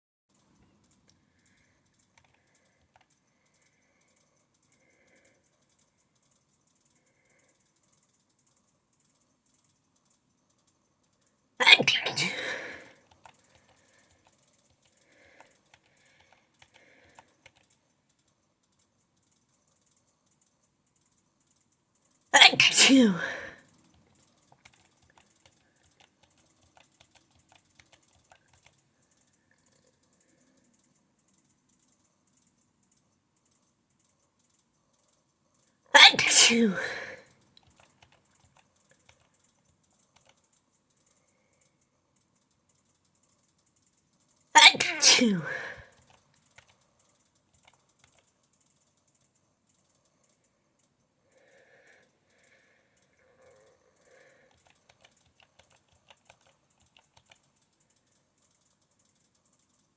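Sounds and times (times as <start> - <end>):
typing on computer keyboard: 0.3 - 11.4, 12.2 - 22.3, 23.6 - 35.8, 36.9 - 44.5, 45.6 - 59.9.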